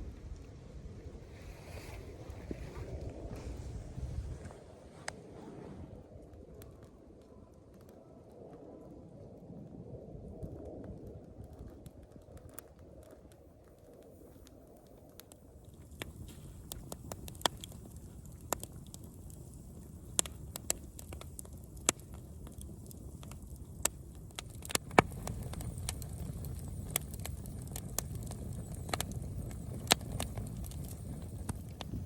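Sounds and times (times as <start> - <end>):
low rumble of fire: 0.0 - 32.0
campfire crackling and popping: 2.1 - 32.0.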